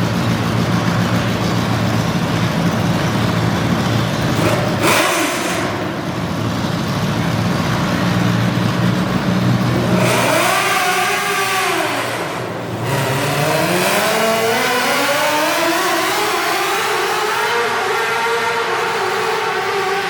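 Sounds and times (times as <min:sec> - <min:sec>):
tractor engine revving: 0:00.0 - 0:20.0.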